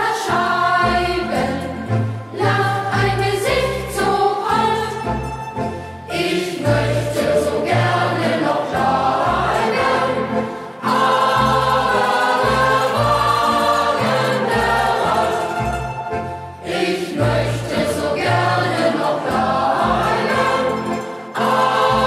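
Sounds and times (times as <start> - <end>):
youth choir singing: 0.0 - 5.2, 6.1 - 22.0
instrumental accompaniment with bass: 0.0 - 22.0.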